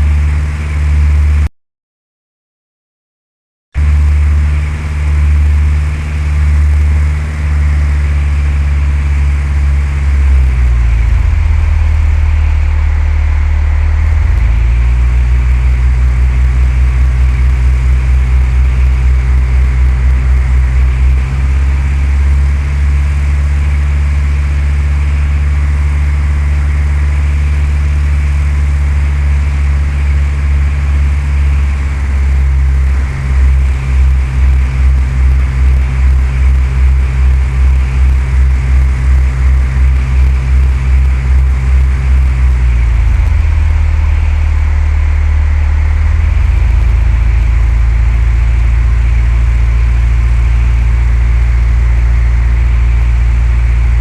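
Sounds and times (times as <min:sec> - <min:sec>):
propeller plane engine droning: 0:00.0 - 0:01.5, 0:03.8 - 0:54.0.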